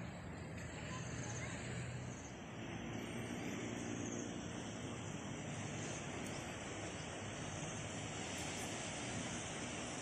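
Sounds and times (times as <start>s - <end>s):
distant engine droning: 0.0s - 10.0s
outdoor background noise: 0.0s - 10.0s.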